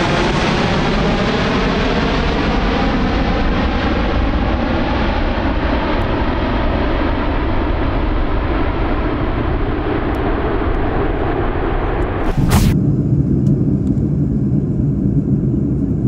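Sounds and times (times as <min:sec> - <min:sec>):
jet engines at take-off power: 0:00.0 - 0:16.0.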